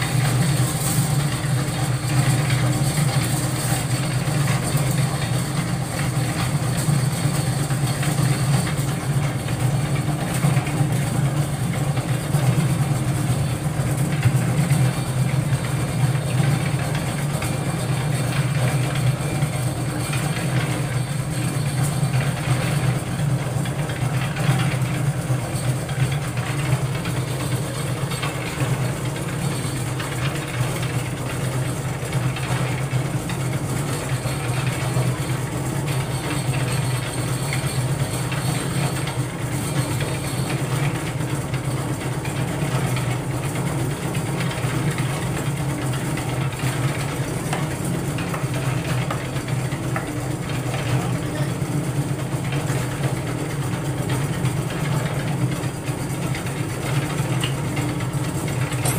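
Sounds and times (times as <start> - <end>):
concrete mixer motor running: 0.0 - 58.9.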